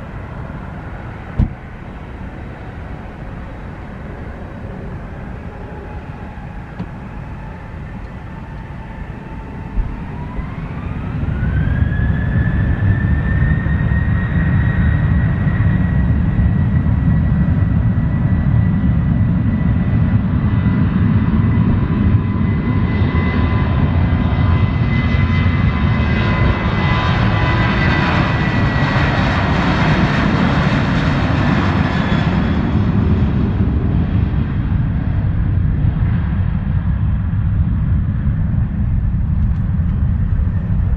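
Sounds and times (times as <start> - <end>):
aircraft passing roar: 0.0 - 40.9
jet engine rumble: 0.0 - 40.9
jet engine whine: 0.0 - 40.9.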